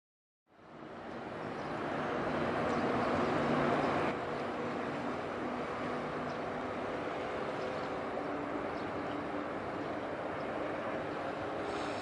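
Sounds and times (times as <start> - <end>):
wind: 0.5 - 12.0
ship engine drone: 0.6 - 12.0.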